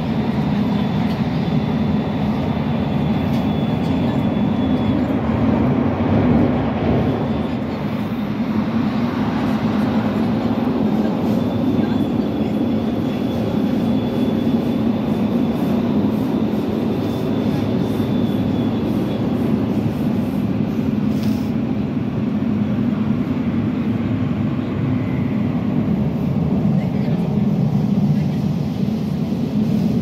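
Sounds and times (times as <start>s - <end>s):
train rumbling through tunnel: 0.0s - 30.0s.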